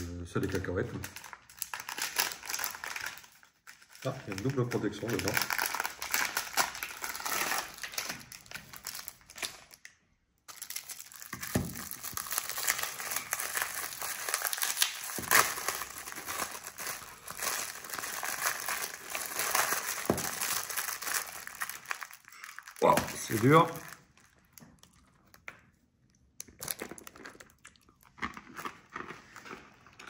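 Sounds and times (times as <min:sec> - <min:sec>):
plastic wrapper crinkling: 0:00.4 - 0:09.9, 0:10.5 - 0:25.5.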